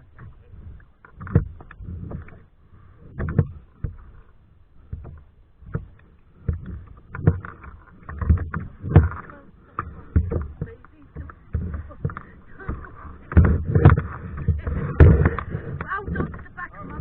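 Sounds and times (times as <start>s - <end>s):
paddle knocking against hull: 0.0s - 17.0s
paddle splashing in water: 0.0s - 17.0s.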